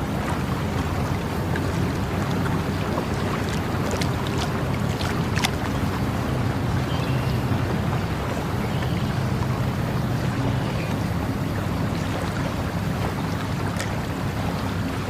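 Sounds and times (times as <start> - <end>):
water flowing steadily: 0.0 - 15.0.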